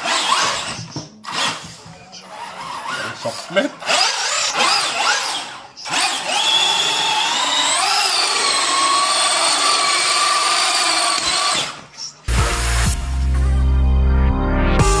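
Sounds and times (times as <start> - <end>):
toy car electric motor whining: 0.0 - 12.3.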